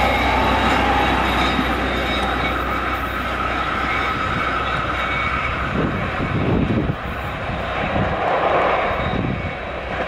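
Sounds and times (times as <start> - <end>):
high-pitched wheel squeal: 0.0 - 9.9
low engine drone: 0.0 - 10.0.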